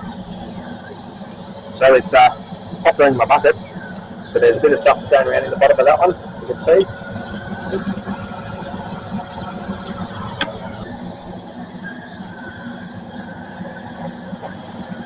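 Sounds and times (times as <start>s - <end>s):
vacuum cleaner drone: 0.0s - 15.0s.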